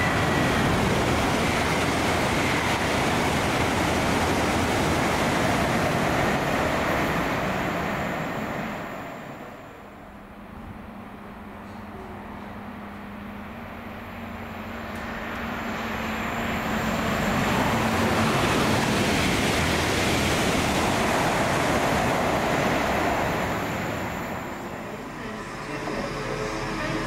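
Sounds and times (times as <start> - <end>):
train passing by rushing: 0.0 - 27.0.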